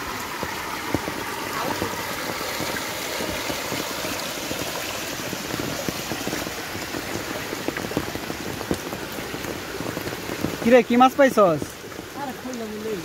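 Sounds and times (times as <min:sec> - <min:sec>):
floodwater rushing across road: 0:00.0 - 0:13.0.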